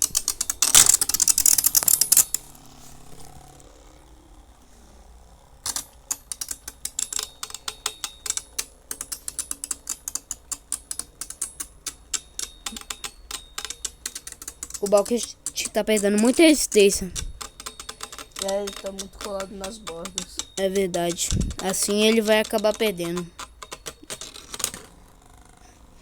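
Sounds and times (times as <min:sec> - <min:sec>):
spinning tops clattering in plastic arena: 0:00.0 - 0:02.6, 0:05.6 - 0:26.0.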